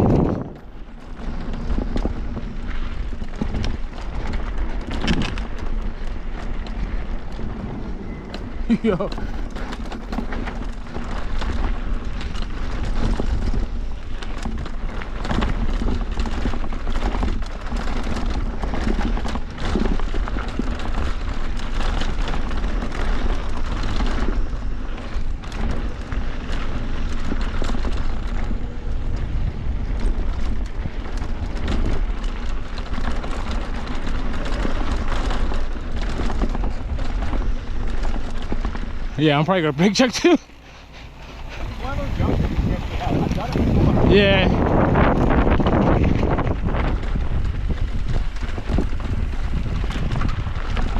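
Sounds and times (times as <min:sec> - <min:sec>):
bike knocks and rattles: 0:00.0 - 0:50.9
tyre rumble on dirt: 0:00.0 - 0:50.9
wind buffeting microphone: 0:00.0 - 0:50.9.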